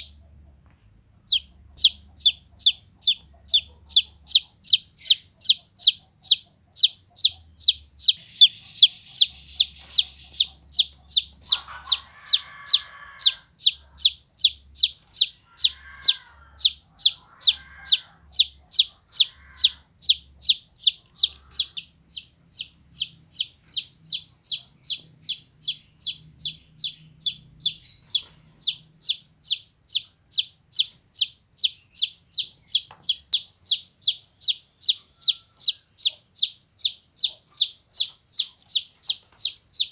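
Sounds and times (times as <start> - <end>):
chick peeping: 0.0 - 39.9.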